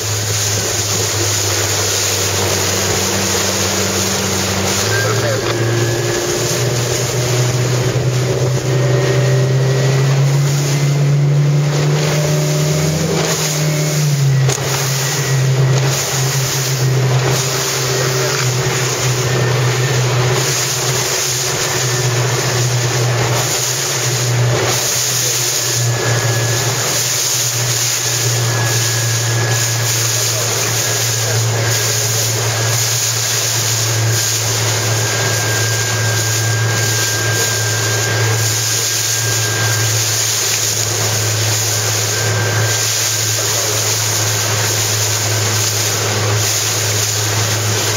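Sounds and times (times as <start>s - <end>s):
motorboat engine running: 0.0s - 47.9s
water noise: 0.0s - 47.9s
wind: 0.0s - 47.9s.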